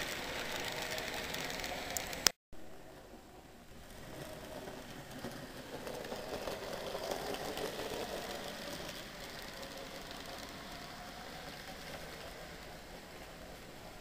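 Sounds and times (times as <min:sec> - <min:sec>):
model train motor whirring: 0:00.0 - 0:02.3, 0:03.8 - 0:13.8
wheels rattling on track: 0:00.0 - 0:02.4, 0:03.7 - 0:14.0.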